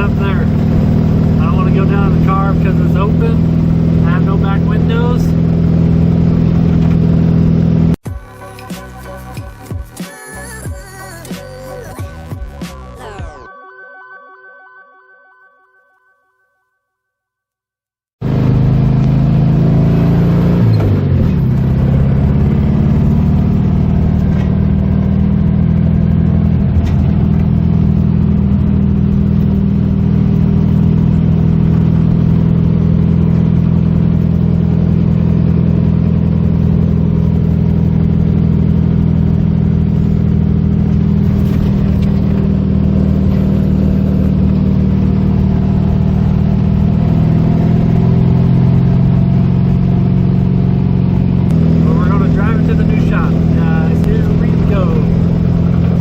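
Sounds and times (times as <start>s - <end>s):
car engine running: 0.0s - 13.0s, 18.2s - 56.0s.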